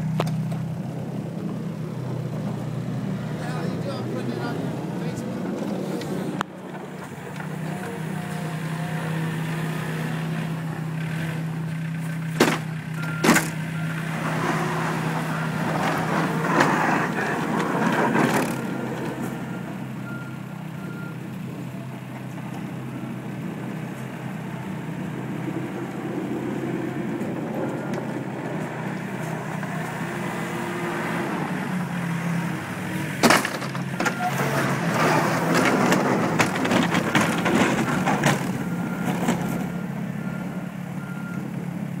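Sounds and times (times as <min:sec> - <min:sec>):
diesel engine running: 0:00.0 - 0:42.0
plow blade scraping pavement: 0:00.0 - 0:42.0.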